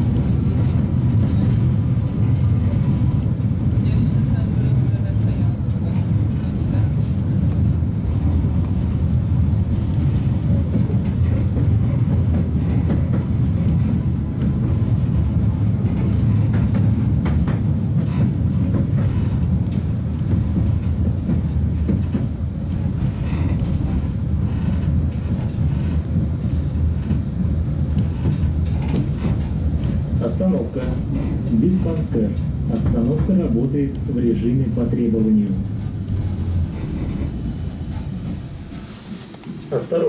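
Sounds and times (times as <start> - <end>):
tram wheels rumbling on rails: 0.0 - 40.0.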